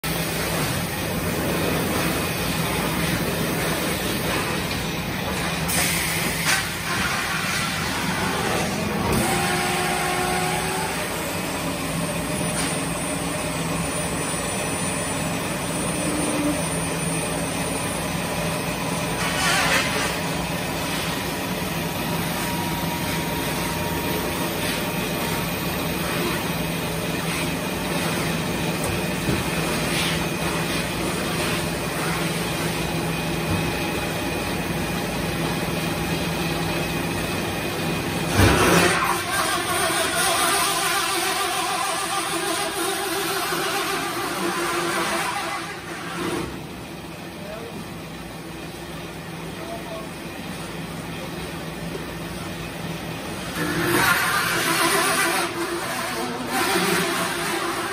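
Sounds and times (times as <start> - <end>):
industrial machinery humming: 0.0 - 57.9.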